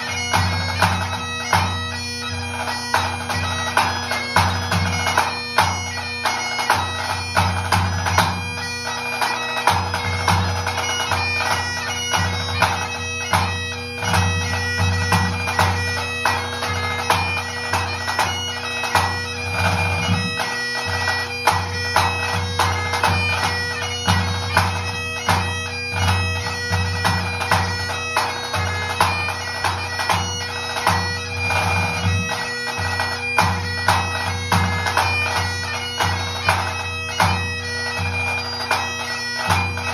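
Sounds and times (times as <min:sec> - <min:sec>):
bagpipe playing a tune: 0:00.0 - 0:39.9.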